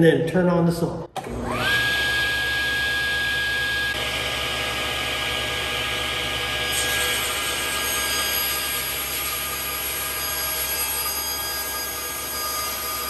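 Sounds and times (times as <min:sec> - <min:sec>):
table saw running: 0:01.2 - 0:13.0.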